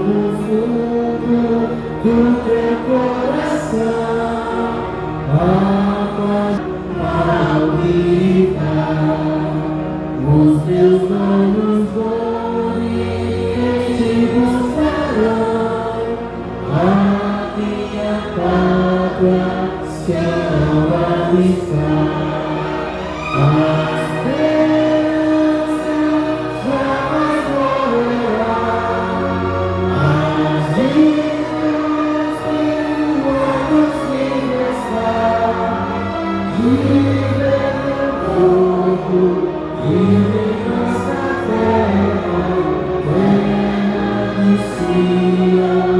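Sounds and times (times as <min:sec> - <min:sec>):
choir singing worship music: 0:00.0 - 0:45.9.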